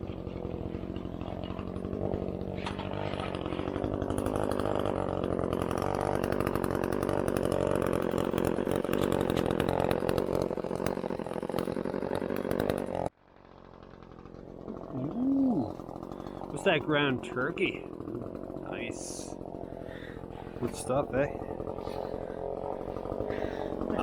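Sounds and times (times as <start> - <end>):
chainsaw running at high revs: 0.0 - 24.0.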